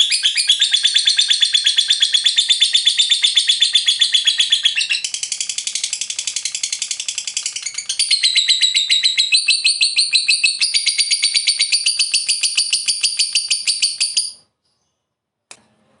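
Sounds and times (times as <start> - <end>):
lovebird chattering trill: 0.0 - 14.4.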